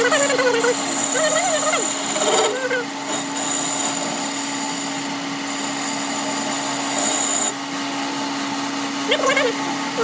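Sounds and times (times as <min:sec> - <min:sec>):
power tool hum and grinding: 0:00.0 - 0:10.0.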